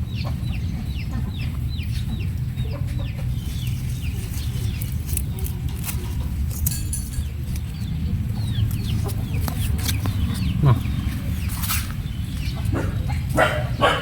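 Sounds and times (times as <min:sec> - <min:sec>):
chickens chirping: 0:00.0 - 0:14.0
steady low rumble: 0:00.0 - 0:14.0.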